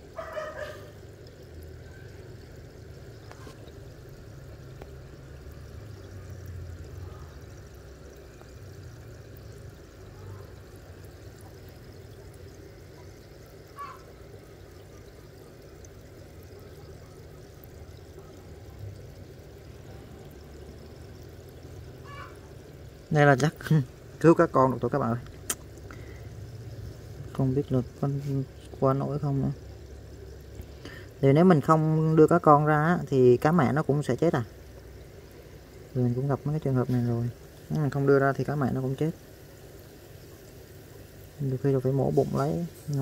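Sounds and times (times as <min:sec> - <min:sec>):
trickle of running water: 0:00.0 - 0:43.0.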